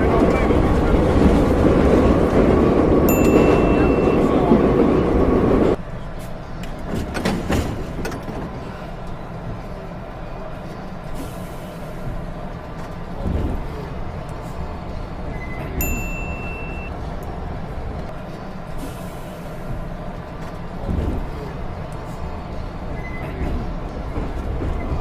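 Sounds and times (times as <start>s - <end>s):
subway train rumbling: 0.0s - 25.0s.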